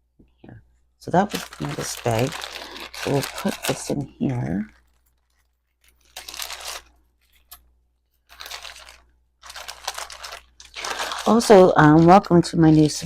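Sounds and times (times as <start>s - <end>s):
plastic bags rustling: 1.0s - 7.6s, 8.2s - 13.0s.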